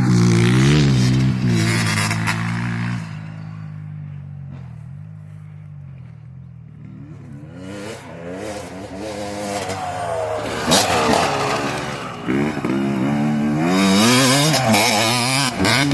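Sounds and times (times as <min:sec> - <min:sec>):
motocross bike engine revving: 0:00.0 - 0:03.8, 0:06.5 - 0:15.9.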